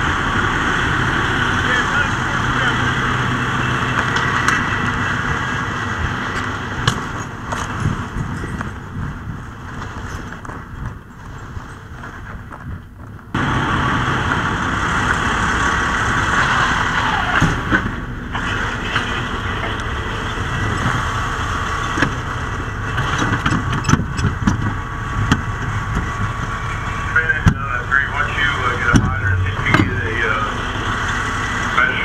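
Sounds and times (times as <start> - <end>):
diesel engine running loudly: 0.0 - 32.0.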